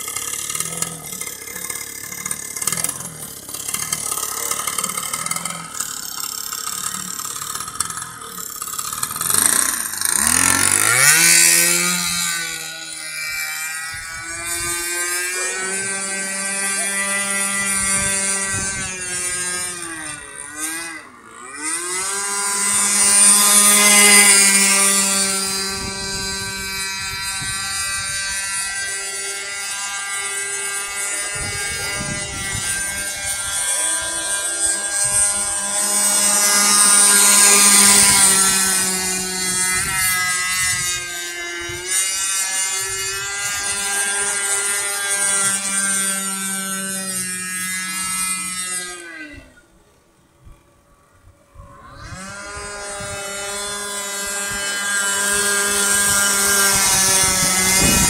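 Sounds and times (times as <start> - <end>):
model boat engine buzzing: 0.0 - 58.0.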